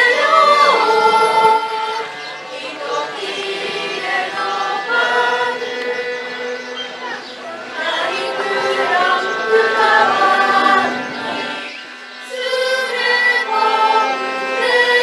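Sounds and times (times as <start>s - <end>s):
bowed cellos: 0.0s - 15.0s
mixed choir singing: 0.0s - 15.0s.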